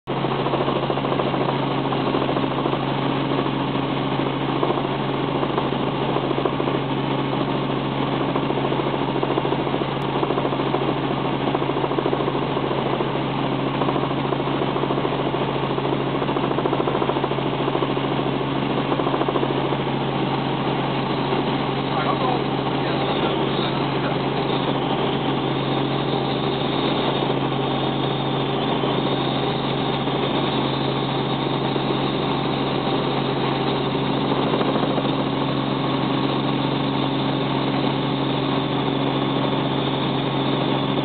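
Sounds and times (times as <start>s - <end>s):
helicopter engine and rotors droning: 0.1s - 41.0s.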